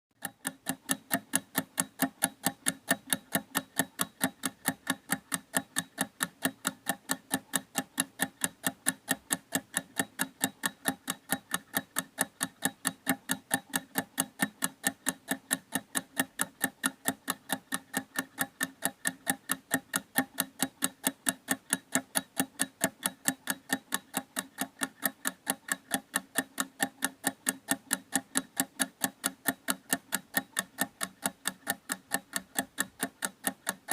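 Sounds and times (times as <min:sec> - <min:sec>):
clock ticking fast: 0:00.2 - 0:33.9.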